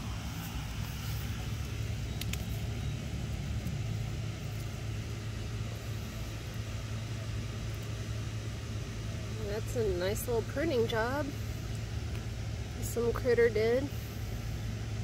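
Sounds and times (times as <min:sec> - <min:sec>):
low machine hum: 0:00.0 - 0:15.0
outdoor background noise: 0:00.0 - 0:15.0.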